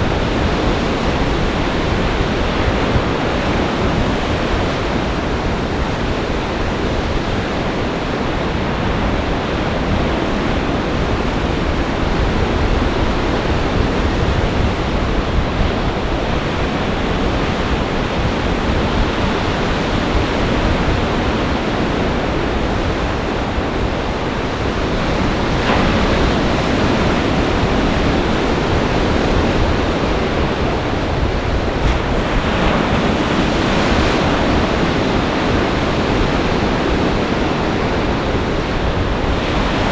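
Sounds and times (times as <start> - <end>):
waves breaking: 0.0 - 23.7, 24.4 - 39.9
wind buffeting microphone: 0.0 - 39.9.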